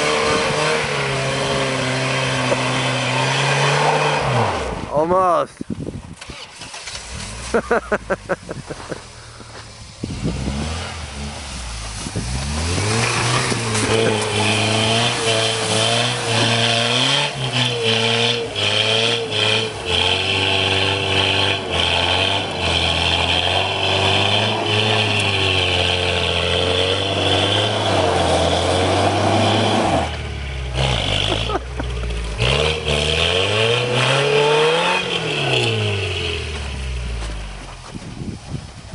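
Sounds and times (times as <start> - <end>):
engine revving hard: 0.0 - 4.9, 10.1 - 36.6.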